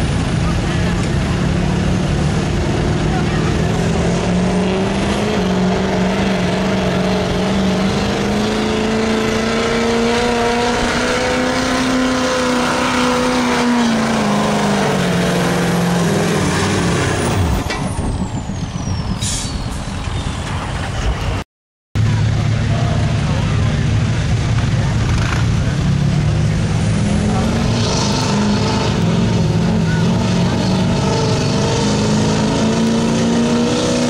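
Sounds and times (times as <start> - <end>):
diesel truck engine at full throttle: 0.0 - 21.4, 22.0 - 34.0.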